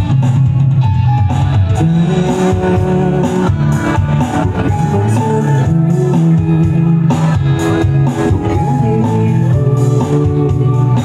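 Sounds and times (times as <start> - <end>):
bass guitar: 0.0 - 11.0
electric guitar: 0.0 - 11.0
live band playing: 0.0 - 11.0.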